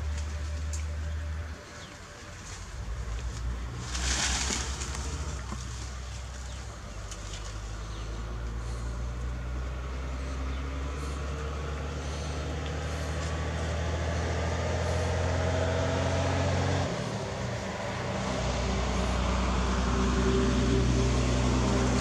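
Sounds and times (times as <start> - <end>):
faint engine whine: 0.0 - 22.0
motor engine droning: 0.0 - 22.0.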